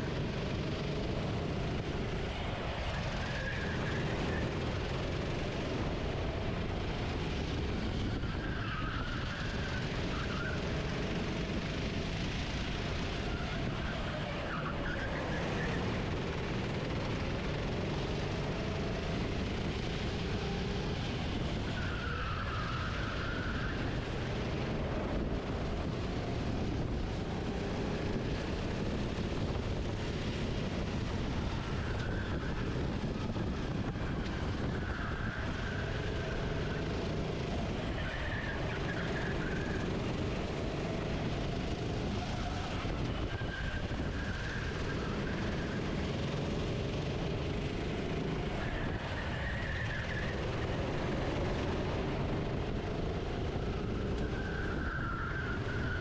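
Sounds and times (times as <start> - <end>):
racing kart engine: 0.0 - 56.0
wind and vibration rumble: 0.0 - 56.0.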